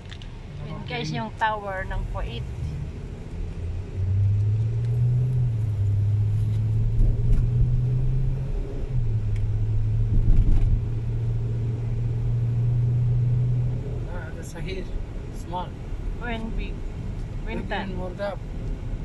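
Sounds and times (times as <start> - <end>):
car engine hum: 0.0 - 19.0
road rumble: 0.0 - 19.0.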